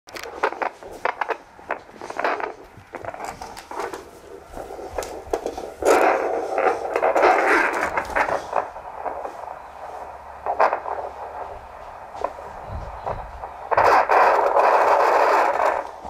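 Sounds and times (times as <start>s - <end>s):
doppler speaker static: 0.1s - 16.0s
probe scraping: 0.1s - 16.0s.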